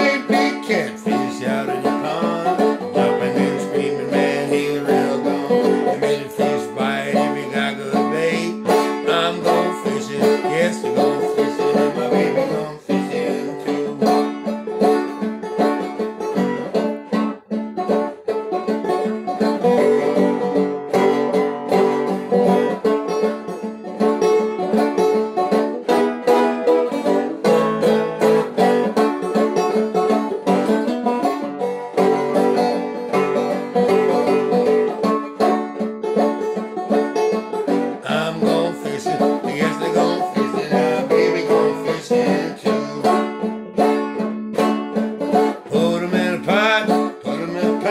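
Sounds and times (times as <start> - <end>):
banjo plucking: 0.0 - 47.9.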